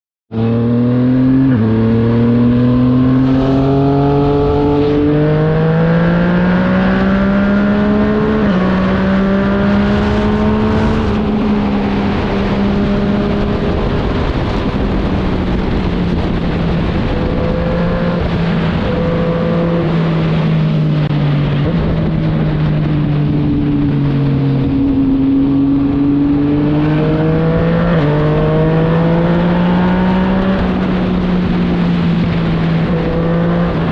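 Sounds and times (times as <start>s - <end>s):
motorcycle engine accelerating: 0.3s - 33.9s.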